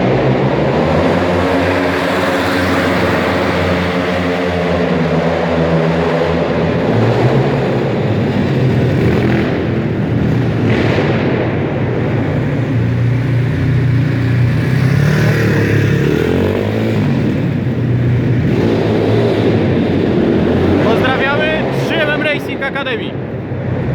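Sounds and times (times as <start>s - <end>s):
motorbike engine revving: 0.0s - 22.5s.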